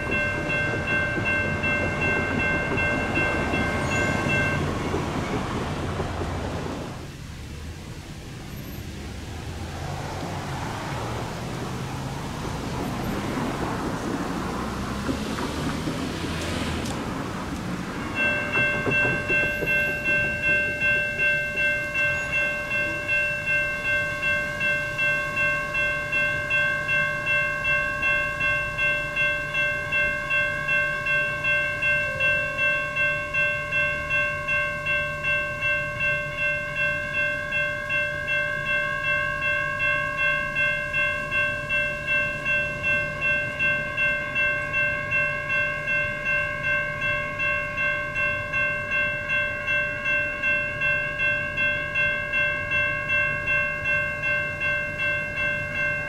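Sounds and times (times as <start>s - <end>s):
electronic crossing bells ringing: 0.0s - 7.2s, 9.6s - 56.0s.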